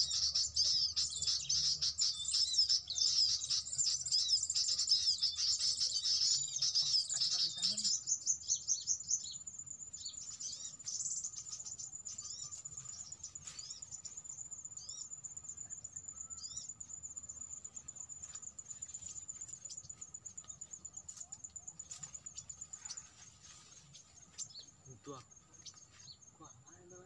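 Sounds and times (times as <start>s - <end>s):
bird chirps: 0.0s - 27.0s
insect trill: 0.0s - 27.0s.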